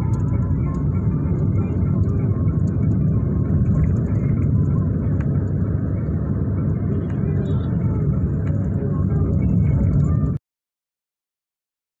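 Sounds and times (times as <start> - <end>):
road noise: 0.0 - 10.4
vehicle engine rumble: 0.0 - 10.4.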